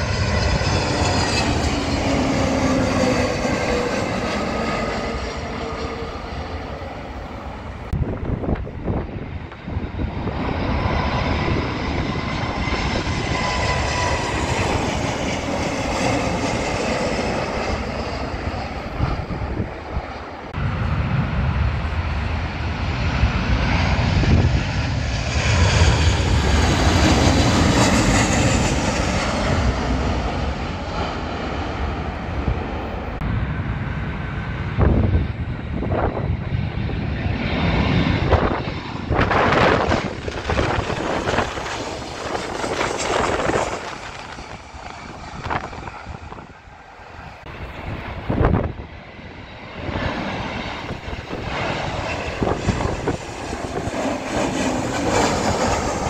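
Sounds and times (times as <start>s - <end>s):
jet airliner passing overhead: 0.0s - 56.0s.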